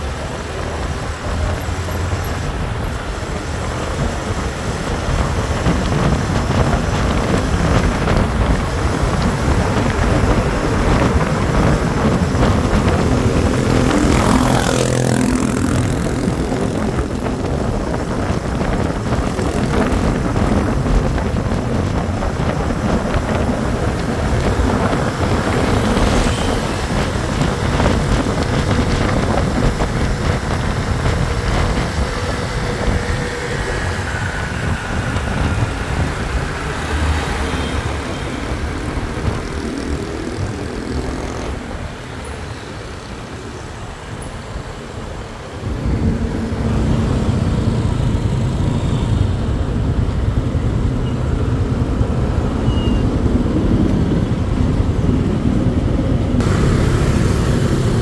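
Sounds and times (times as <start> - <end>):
motorcycle engine and road noise: 0.0 - 58.0
wind buffeting on microphone: 0.0 - 58.0.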